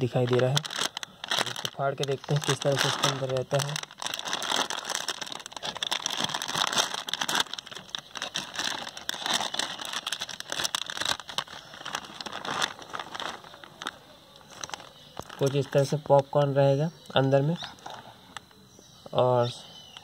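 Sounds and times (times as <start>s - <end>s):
plastic snack packet crinkling: 0.0s - 16.4s.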